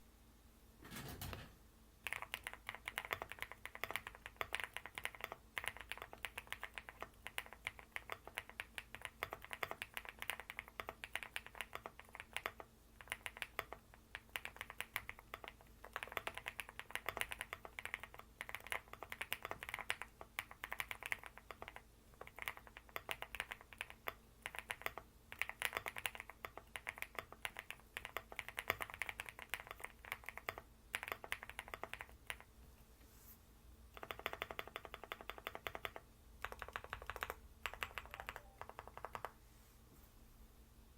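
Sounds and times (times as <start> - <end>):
mechanical keyboard typing: 0.9 - 32.5, 34.0 - 39.4.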